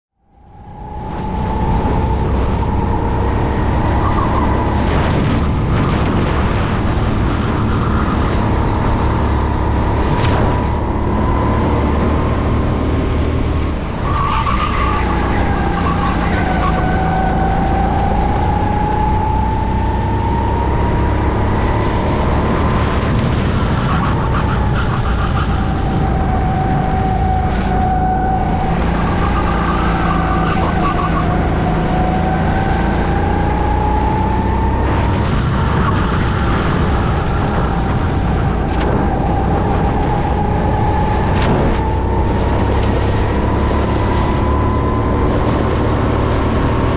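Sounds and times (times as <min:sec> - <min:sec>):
racing kart engine: 0:00.3 - 0:46.9
second kart engine: 0:00.4 - 0:46.9.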